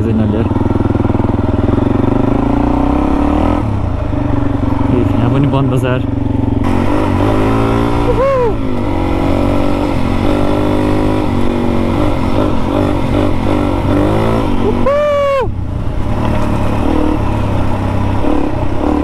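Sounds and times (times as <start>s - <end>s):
dirt bike engine revving: 0.0s - 15.5s, 16.1s - 19.0s.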